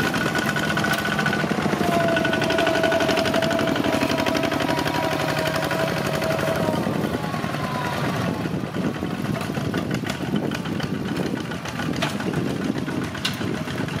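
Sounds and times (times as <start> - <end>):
tractor diesel engine chugging: 0.0 - 14.0.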